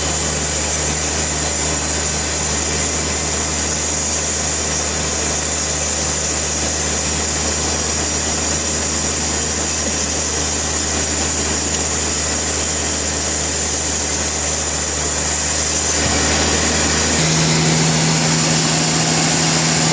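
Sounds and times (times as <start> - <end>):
sawmill machinery humming: 0.0 - 19.9.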